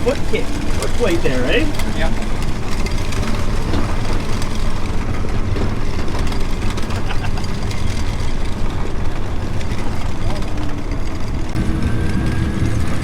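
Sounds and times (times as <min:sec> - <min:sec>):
snowcat diesel engine and tracks: 0:00.0 - 0:13.0.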